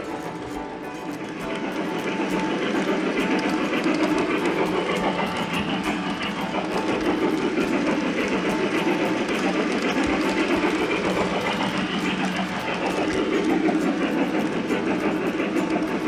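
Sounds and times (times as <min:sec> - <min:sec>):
model train rumbling on track: 0:00.0 - 0:16.0.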